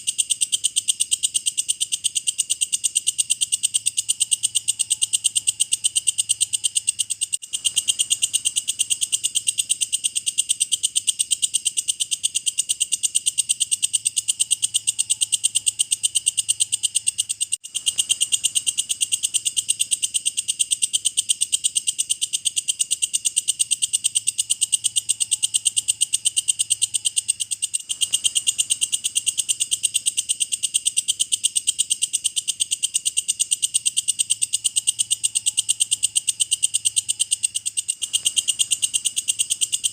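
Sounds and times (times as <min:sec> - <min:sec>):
katydid chirring: 0:00.0 - 0:39.9.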